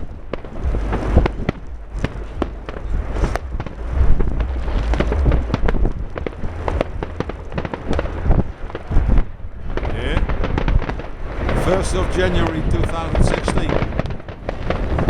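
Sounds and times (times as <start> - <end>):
firecrackers banging and cracking: 0.0 - 15.0
steady low rumble: 0.0 - 15.0.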